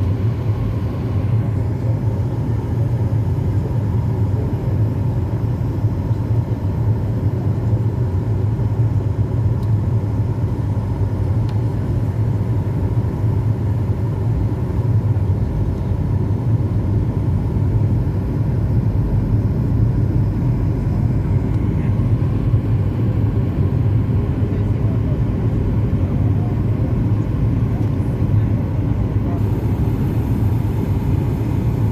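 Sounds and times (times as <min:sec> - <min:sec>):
airplane engines rumbling in flight: 0:00.0 - 0:31.9.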